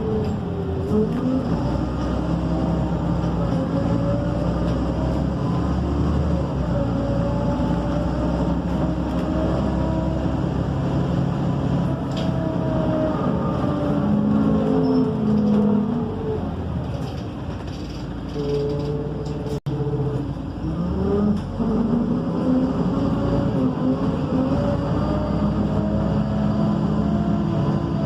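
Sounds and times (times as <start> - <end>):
bus diesel engine from inside: 0.0 - 28.0.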